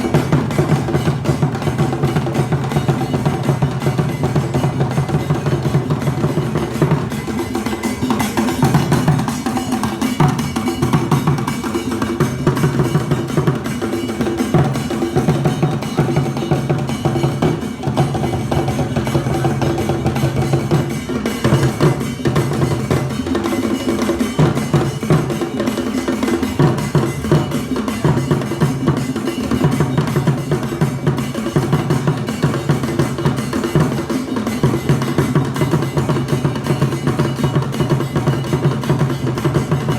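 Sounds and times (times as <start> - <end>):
drum ensemble playing fast rhythm: 0.0 - 39.9.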